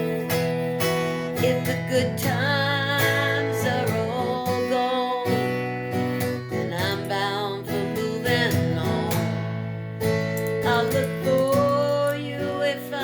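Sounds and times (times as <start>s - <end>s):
acoustic guitar strumming: 0.0s - 13.0s
person singing: 1.1s - 9.5s, 10.4s - 13.0s.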